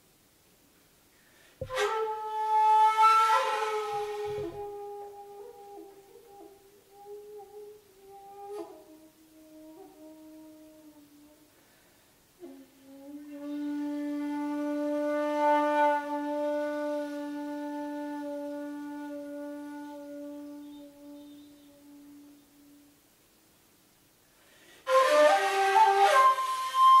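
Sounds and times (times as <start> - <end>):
bamboo flute playing: 1.6 - 11.5, 12.4 - 23.0, 24.8 - 27.0.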